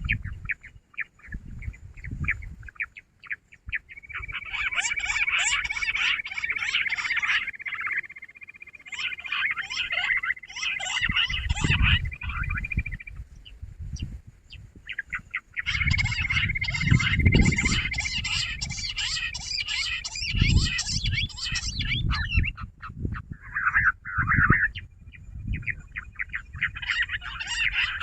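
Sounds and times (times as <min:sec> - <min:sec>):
quail chattering chorus: 0:00.0 - 0:13.6, 0:14.8 - 0:28.0.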